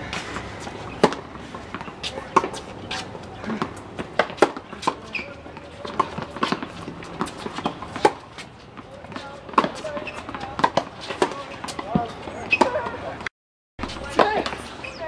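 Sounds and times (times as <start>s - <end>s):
tennis ball hits: 0.1s - 13.2s.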